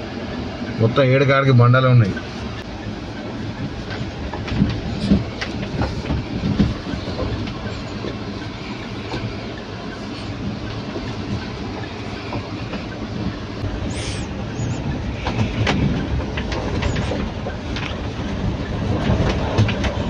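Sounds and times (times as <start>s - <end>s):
engine and tyres rumbling: 0.0s - 20.0s.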